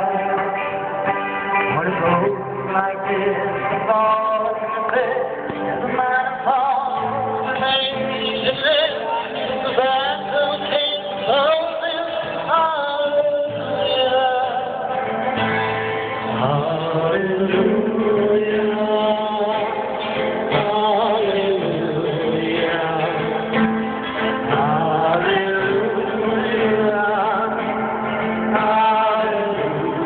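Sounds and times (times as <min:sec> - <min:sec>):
acoustic guitar strumming: 0:00.0 - 0:30.0
man singing: 0:00.0 - 0:30.0.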